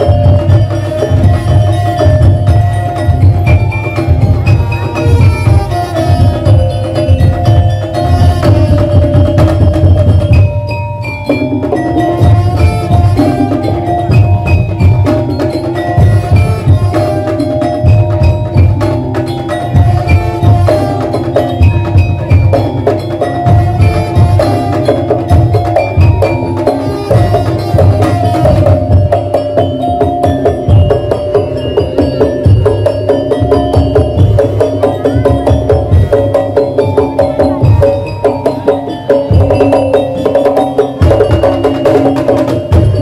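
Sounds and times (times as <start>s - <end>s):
fast dense drumming: 0.0s - 43.0s
tuned mallet percussion melody: 0.0s - 43.0s.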